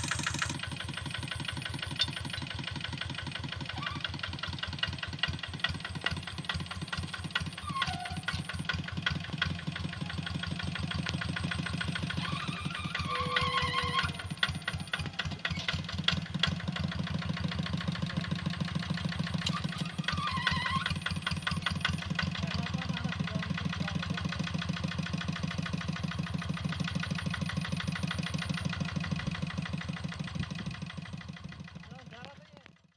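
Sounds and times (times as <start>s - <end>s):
hand tractor engine chugging: 0.0s - 32.9s.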